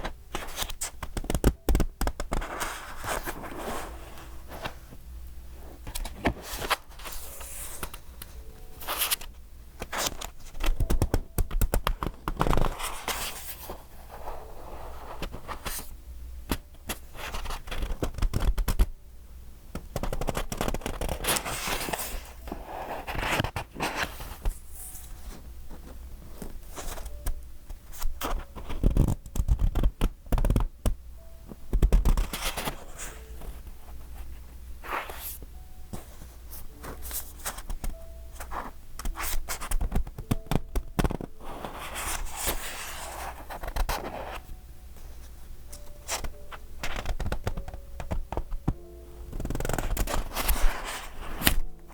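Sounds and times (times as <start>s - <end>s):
paper pages rustling: 0.0s - 5.0s, 5.7s - 15.9s, 16.9s - 18.9s, 19.9s - 30.6s, 31.7s - 44.4s, 45.0s - 51.9s.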